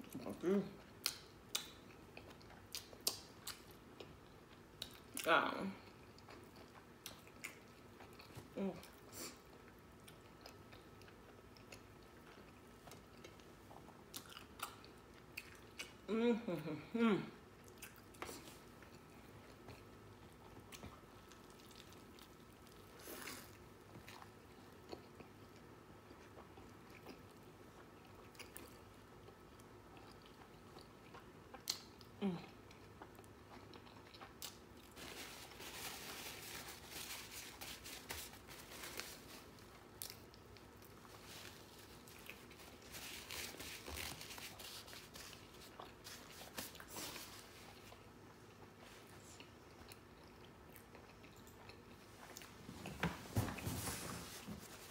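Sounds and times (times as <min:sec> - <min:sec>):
person chewing and crunching: 0:00.0 - 0:16.0, 0:17.6 - 0:52.6.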